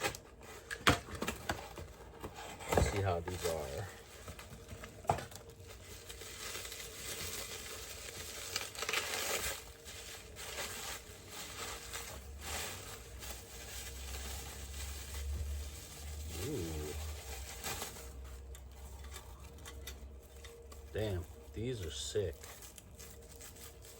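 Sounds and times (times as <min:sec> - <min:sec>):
packaging crinkling and tearing: 0:00.0 - 0:23.9.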